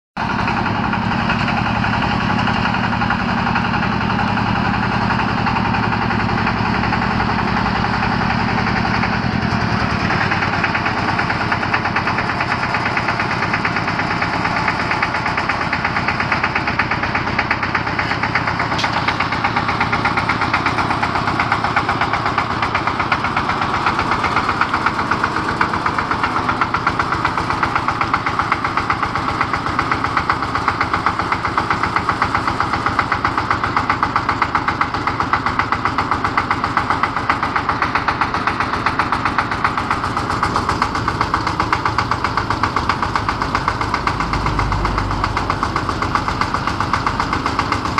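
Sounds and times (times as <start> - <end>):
diesel engine running: 0.2 - 47.9.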